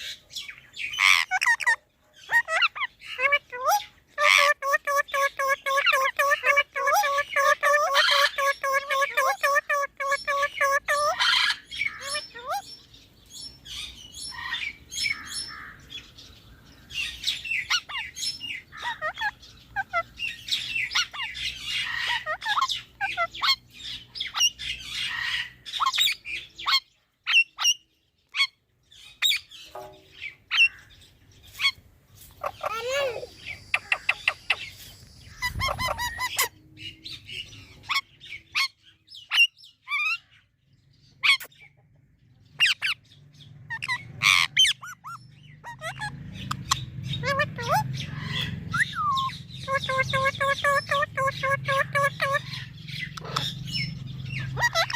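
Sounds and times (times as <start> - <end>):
parrots chirping and squawking: 0.0 - 41.7, 42.4 - 54.9.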